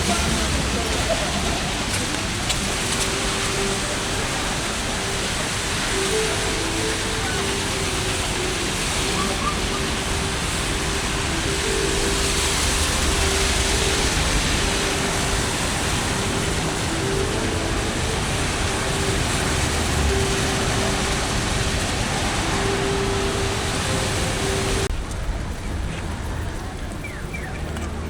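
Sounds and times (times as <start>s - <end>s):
heavy rain hissing: 0.0s - 28.0s
traffic on wet streets: 0.0s - 28.0s.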